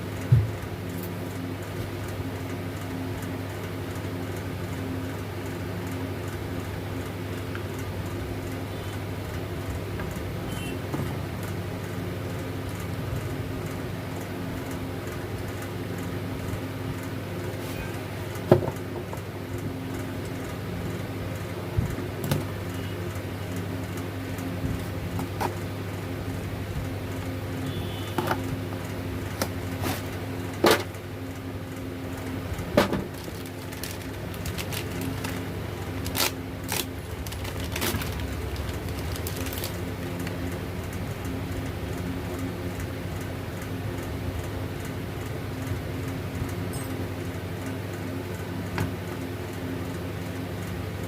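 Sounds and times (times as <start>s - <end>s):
low machine hum: 0.0s - 51.0s.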